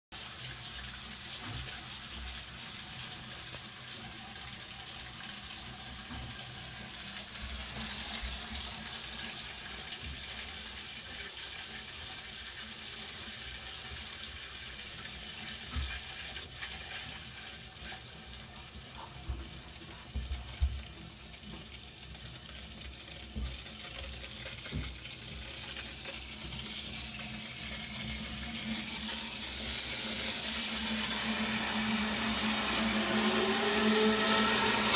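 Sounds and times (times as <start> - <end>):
water rushing through pipes: 0.1 - 34.9.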